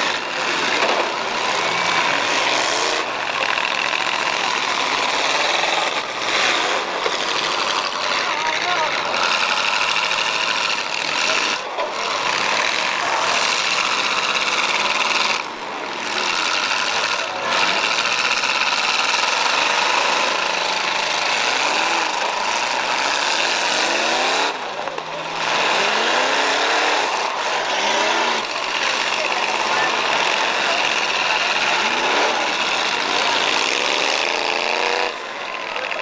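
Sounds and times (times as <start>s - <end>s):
car engines revving hard: 0.0s - 36.0s.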